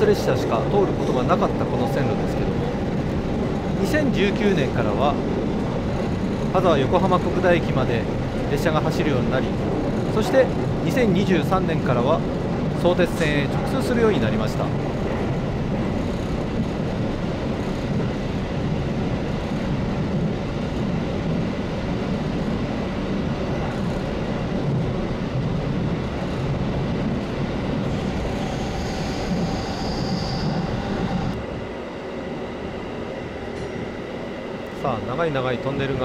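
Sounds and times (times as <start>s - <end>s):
train wheels running on rail: 0.0s - 36.0s.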